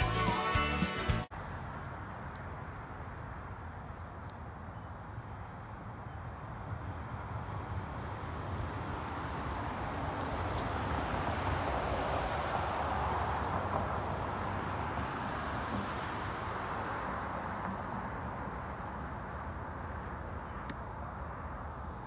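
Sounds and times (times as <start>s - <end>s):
cars passing: 0.0s - 22.0s.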